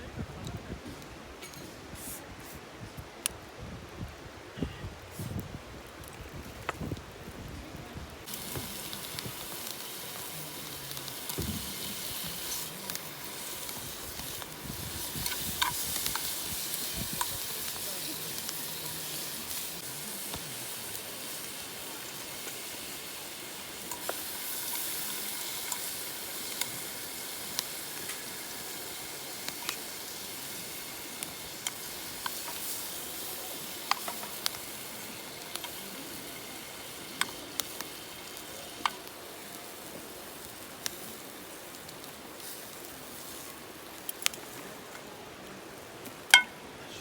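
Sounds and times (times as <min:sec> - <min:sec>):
food sizzling over campfire: 0:00.0 - 0:47.0
fire pops and crackles: 0:00.2 - 0:46.6.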